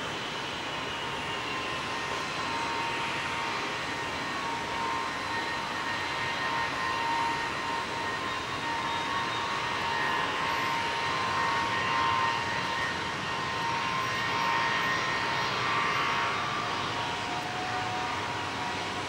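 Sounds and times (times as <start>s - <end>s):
jet engines whining: 0.1s - 19.0s.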